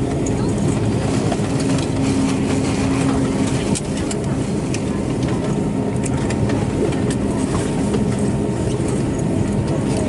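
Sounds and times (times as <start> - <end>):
aircraft engines idling hum: 0.0 - 10.0.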